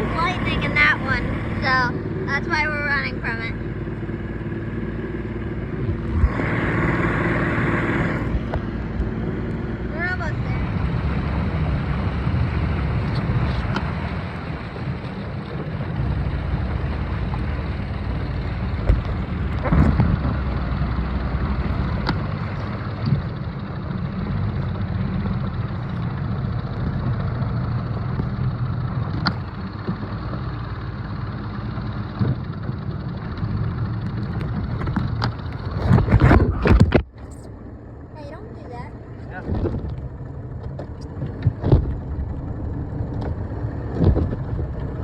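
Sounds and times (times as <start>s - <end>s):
boat motor rumbling: 0.0s - 45.0s
wind and water noise: 0.0s - 45.0s.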